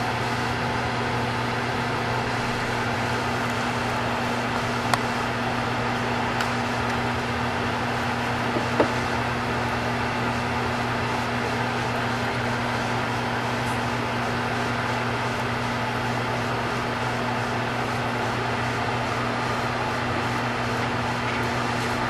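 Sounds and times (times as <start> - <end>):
mechanical hum with hiss: 0.0 - 22.0.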